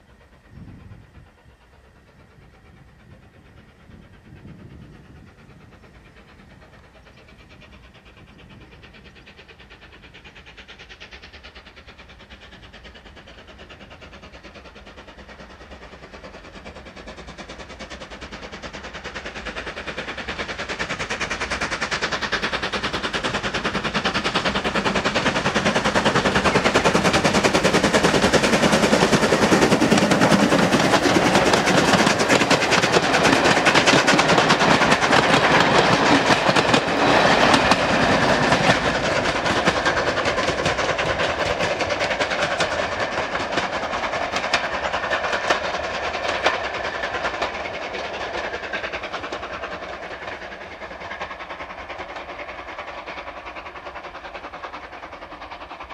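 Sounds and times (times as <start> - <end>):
steam locomotive exhaust beating: 0.0 - 55.9
train wheels clattering over rail joints: 2.3 - 55.9.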